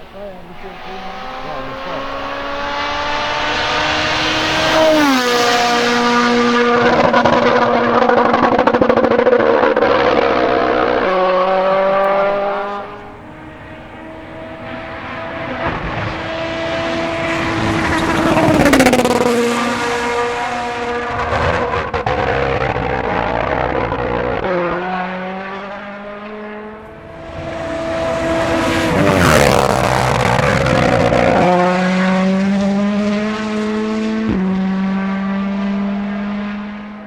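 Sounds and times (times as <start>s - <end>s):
rally car passing flat out: 0.0s - 37.0s.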